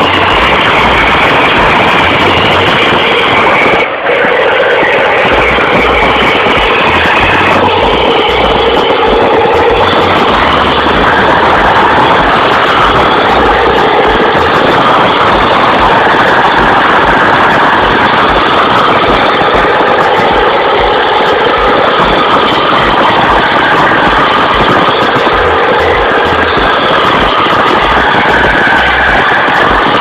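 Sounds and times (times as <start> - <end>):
truck engine running under load: 0.0 - 30.0.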